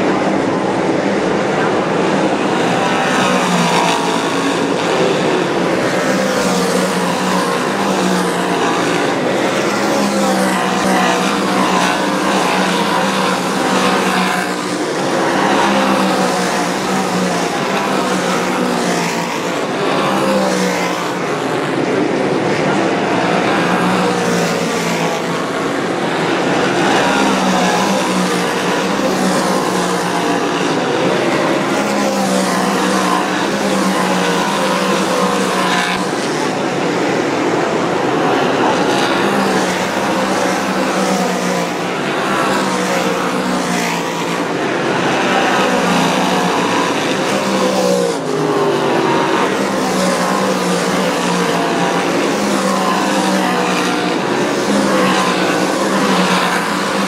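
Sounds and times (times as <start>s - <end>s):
race car engines passing: 0.0s - 57.0s.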